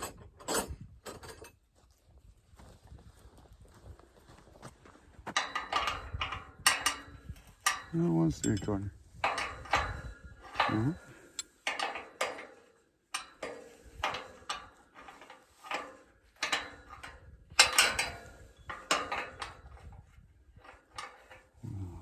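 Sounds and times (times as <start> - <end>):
metal tools clinking and clanking: 0.0 - 1.6, 5.4 - 22.0.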